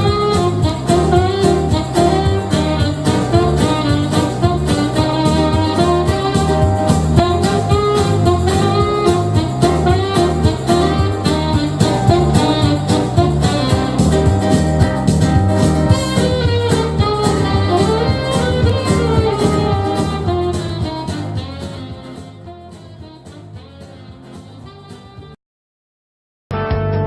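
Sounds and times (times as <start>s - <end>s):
jazz music with horns: 0.0s - 25.4s.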